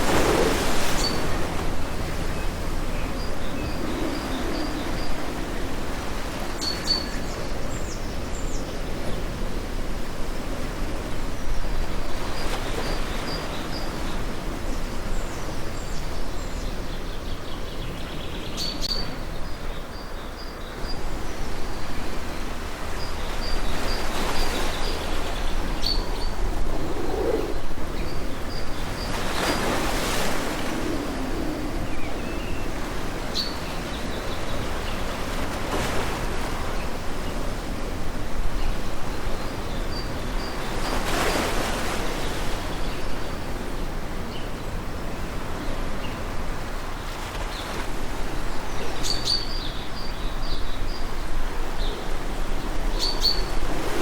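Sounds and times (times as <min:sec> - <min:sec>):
ocean waves washing in: 0:00.0 - 0:19.9, 0:20.8 - 0:54.0.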